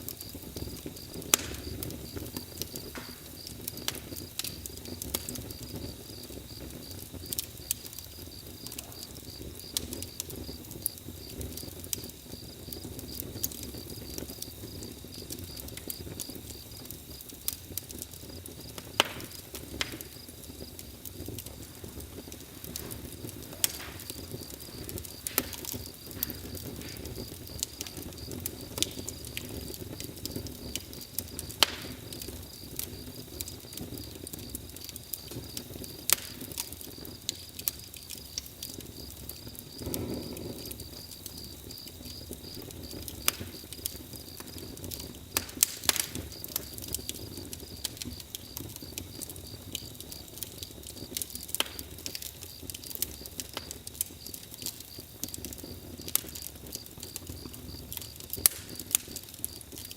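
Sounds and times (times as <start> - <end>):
campfire crackling: 0.0 - 59.9
insects trilling: 0.1 - 59.9.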